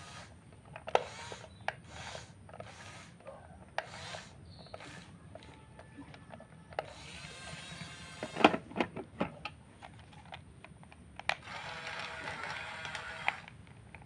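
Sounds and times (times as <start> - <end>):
small electric motors whining: 0.0 - 8.9, 11.2 - 14.0.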